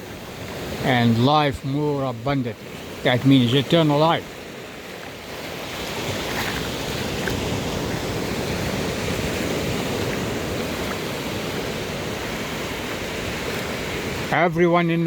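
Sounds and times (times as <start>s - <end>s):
ocean waves rushing: 0.0s - 15.0s.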